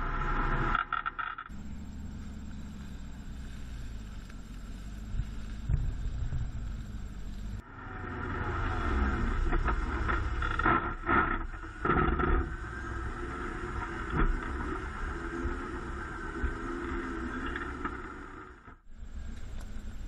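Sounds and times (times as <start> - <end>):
truck engine with high whine: 0.0 - 20.0.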